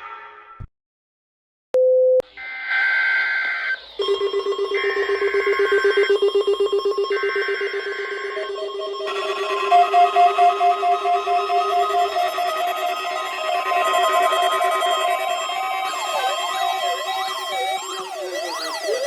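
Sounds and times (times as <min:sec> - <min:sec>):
rapidly pulsing electronic tone: 0:02.8 - 0:19.0
warbling two-tone data bursts: 0:02.8 - 0:19.0.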